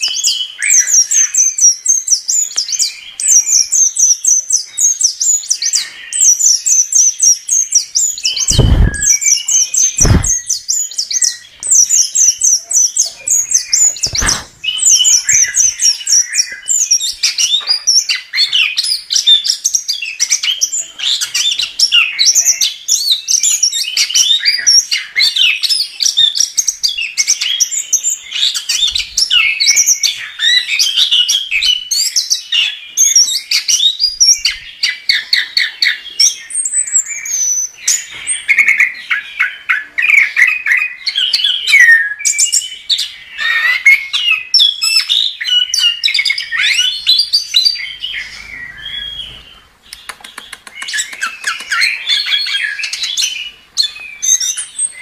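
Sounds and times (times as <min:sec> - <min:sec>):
thrush singing chirps and trills: 0:00.0 - 0:55.0.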